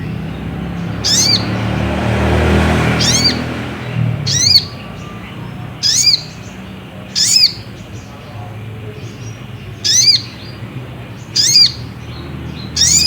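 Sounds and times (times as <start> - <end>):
bird call notes: 0.0 - 8.1, 9.0 - 13.0.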